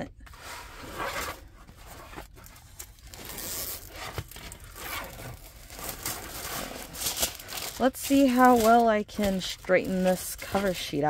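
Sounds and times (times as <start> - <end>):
plastic sheet crinkling: 1.9 - 11.0.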